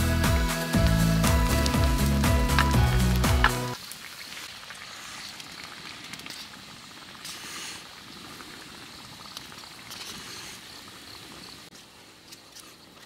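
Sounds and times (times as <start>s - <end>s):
stew simmering with bubbling pops: 0.8s - 13.0s.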